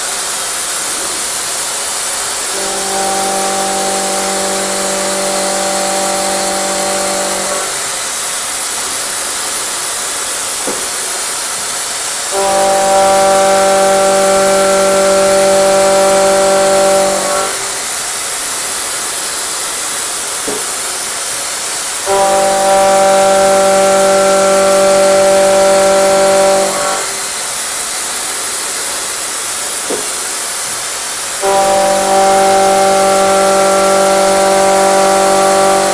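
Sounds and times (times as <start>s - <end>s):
constant hiss: 0.0s - 35.9s
milling cutter humming: 0.0s - 35.9s.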